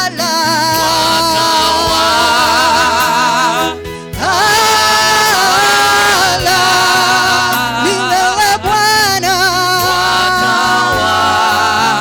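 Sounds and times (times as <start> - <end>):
instrumental backing: 0.0 - 12.0.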